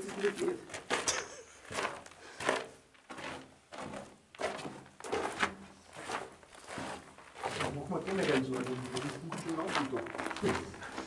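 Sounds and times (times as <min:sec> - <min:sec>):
footsteps in a tunnel: 0:00.0 - 0:11.0.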